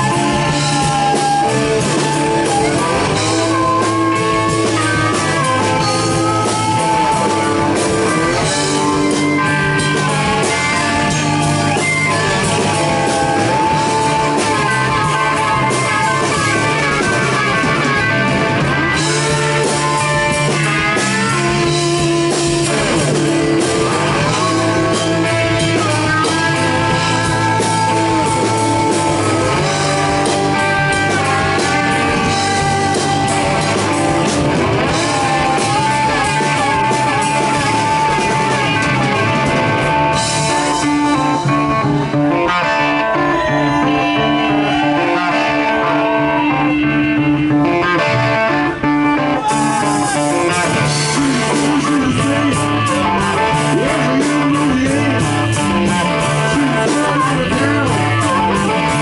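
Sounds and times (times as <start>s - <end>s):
amplified harmonica: 0.0s - 59.0s
bass guitar: 0.0s - 59.0s
drum kit: 0.0s - 59.0s
electric guitar: 0.0s - 59.0s.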